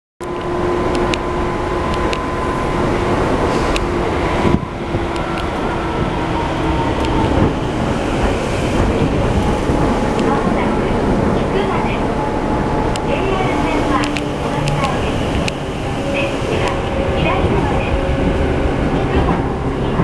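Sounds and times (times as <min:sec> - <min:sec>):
train wheels rumbling on rail: 0:00.2 - 0:20.0.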